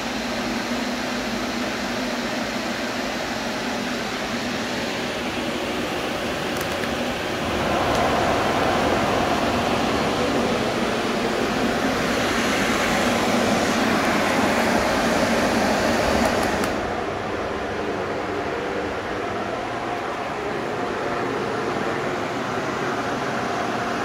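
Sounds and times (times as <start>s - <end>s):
fans blowing air: 0.0s - 24.0s.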